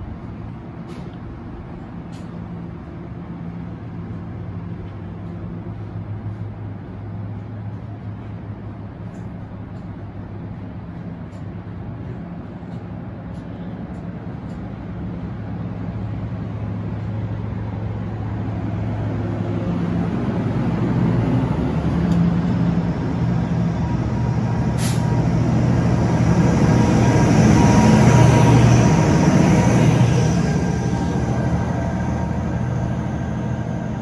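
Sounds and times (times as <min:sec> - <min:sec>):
locomotive engine: 0:00.0 - 0:34.0
train wheels rumbling on rails: 0:00.0 - 0:34.0.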